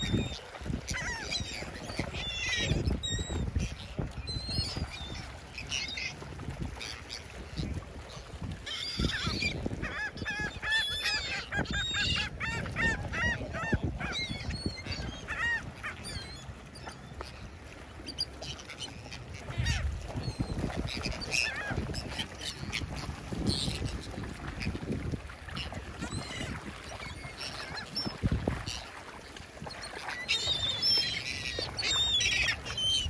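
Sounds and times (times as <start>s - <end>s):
gulls calling: 0.0s - 24.8s, 25.4s - 33.0s.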